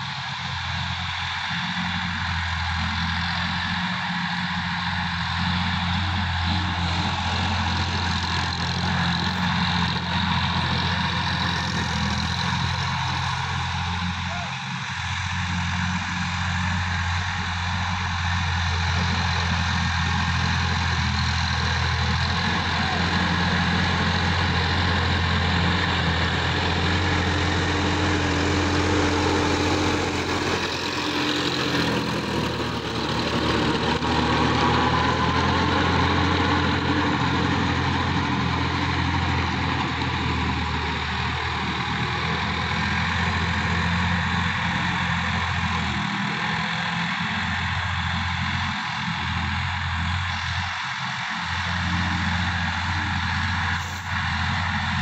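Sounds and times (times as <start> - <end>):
rotary tiller in dry soil: 0.0 - 55.0
tractor diesel engine running: 0.0 - 55.0.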